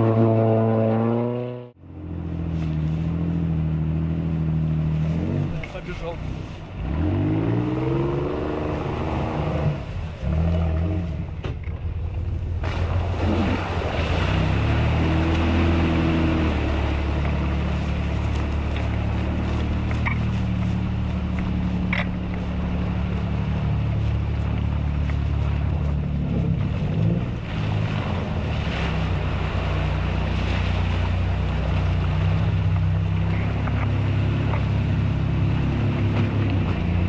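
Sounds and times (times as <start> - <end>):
off-road engine revving: 0.0 - 37.0
tyres churning in mud: 2.0 - 37.0.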